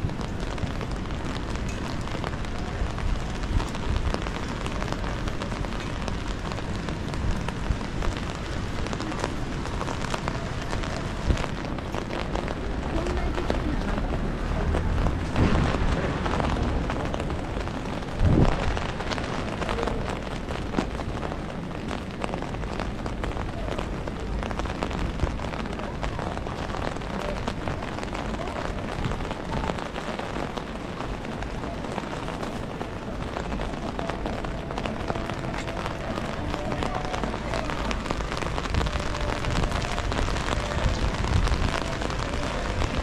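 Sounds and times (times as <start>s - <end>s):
rain ticking on street: 0.0s - 43.0s.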